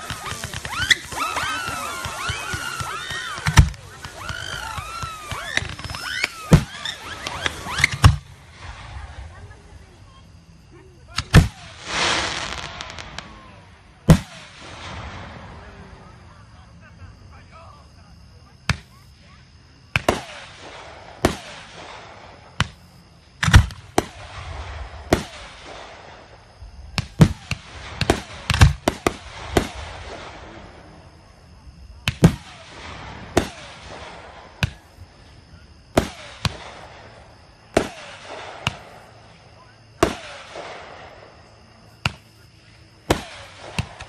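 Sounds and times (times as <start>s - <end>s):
fireworks bangs: 0.0s - 10.2s, 11.0s - 18.0s, 19.9s - 44.0s
fireworks crackling and hiss: 0.0s - 44.0s.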